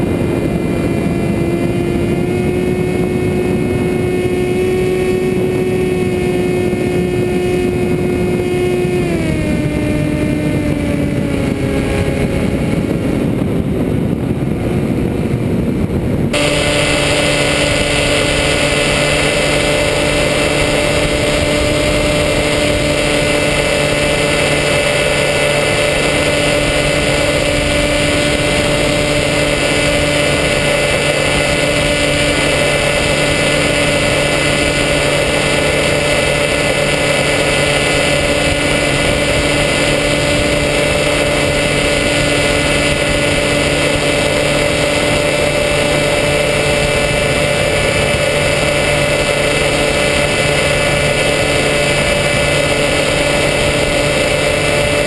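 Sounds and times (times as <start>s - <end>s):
electric motor and propeller hum: 0.0s - 55.0s.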